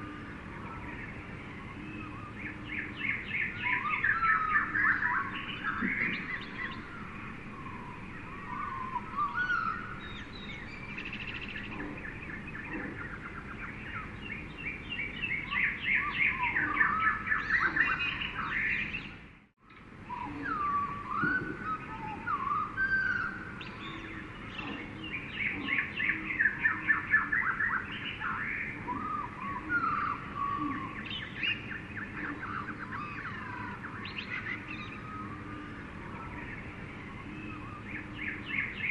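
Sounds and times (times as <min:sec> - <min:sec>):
birds chirping and trilling: 0:00.0 - 0:38.9
low background hiss: 0:00.0 - 0:38.9.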